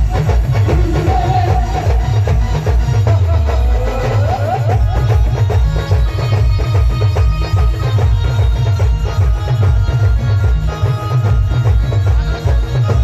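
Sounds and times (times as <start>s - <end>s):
heavy drum beat: 0.0s - 13.0s.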